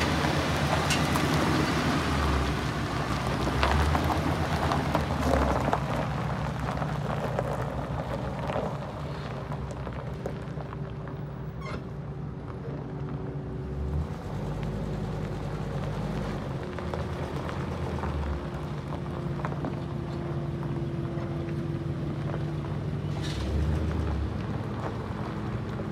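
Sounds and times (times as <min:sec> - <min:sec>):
truck engine running: 0:00.0 - 0:25.9
tyres crunching on gravel: 0:00.0 - 0:25.9.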